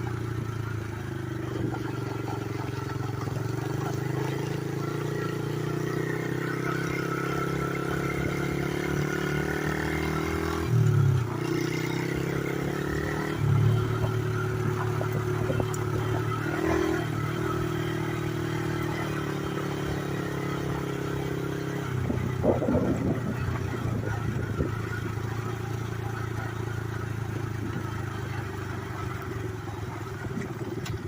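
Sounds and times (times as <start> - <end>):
small motorbike engine running: 0.0 - 31.0.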